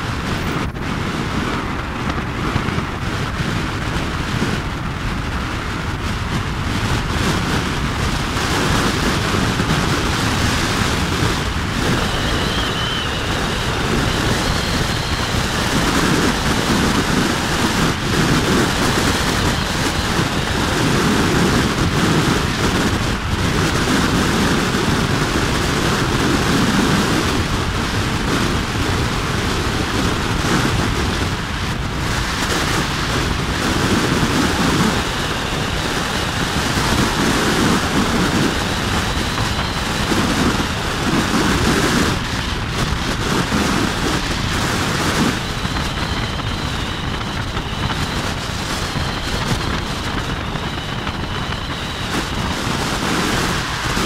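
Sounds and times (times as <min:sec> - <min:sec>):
motorbike running and tyre noise: 0:00.0 - 0:54.0
wind rushing over microphone: 0:00.0 - 0:54.0.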